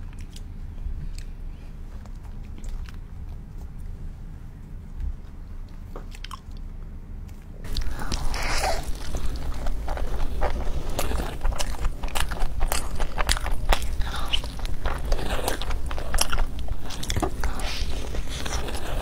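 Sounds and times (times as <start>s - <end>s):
person chewing pizza: 0.0s - 3.8s, 6.1s - 6.7s, 7.6s - 19.0s.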